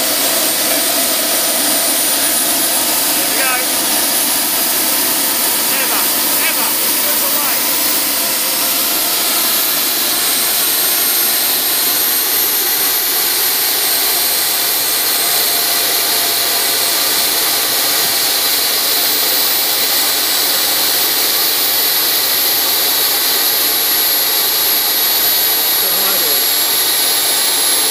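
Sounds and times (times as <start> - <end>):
turbojet engine running: 0.0 - 27.9.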